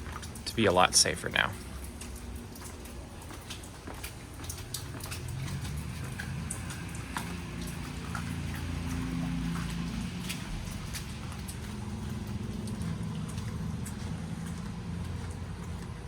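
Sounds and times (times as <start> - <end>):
distant leaf blowers droning: 0.0 - 16.0
footsteps on wet pavement: 0.0 - 16.0.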